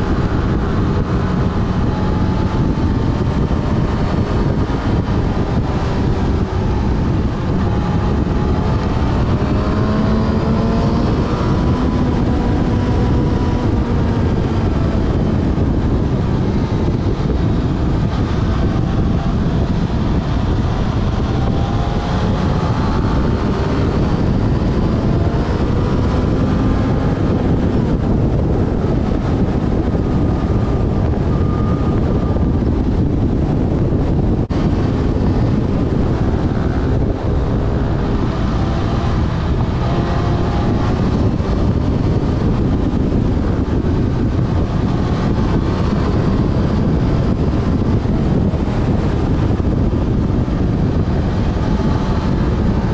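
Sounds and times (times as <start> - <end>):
motorcycle engine revving: 0.0 - 52.9
wind noise on microphone: 0.0 - 52.9.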